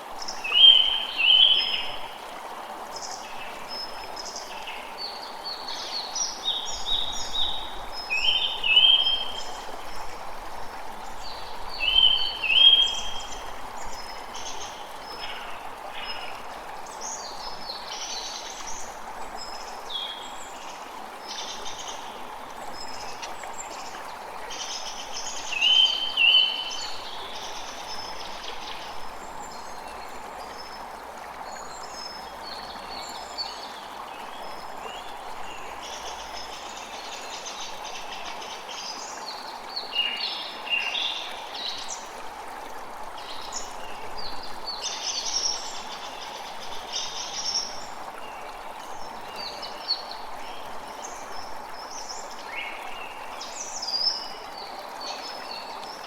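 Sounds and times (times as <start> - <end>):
creek flowing: 0.0 - 56.0.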